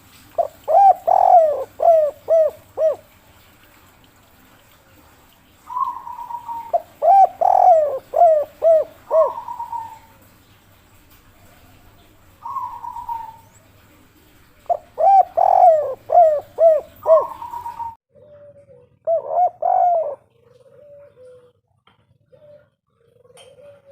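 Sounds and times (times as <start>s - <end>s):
dove cooing: 0.3s - 3.2s, 5.6s - 10.3s, 11.4s - 23.9s.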